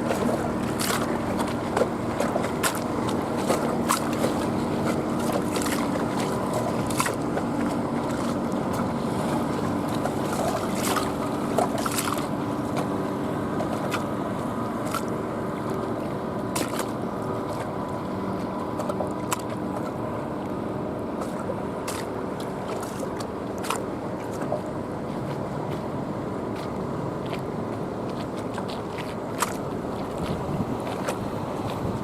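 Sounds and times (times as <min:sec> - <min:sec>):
motorboat engine running: 0:00.0 - 0:32.0
water lapping: 0:00.0 - 0:32.0
water splashes: 0:00.0 - 0:32.0.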